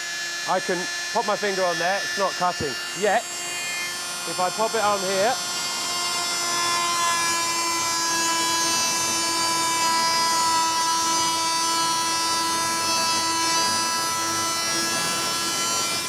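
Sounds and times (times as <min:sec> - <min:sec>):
oscillating multi-tool cutting wood: 0:00.0 - 0:16.0.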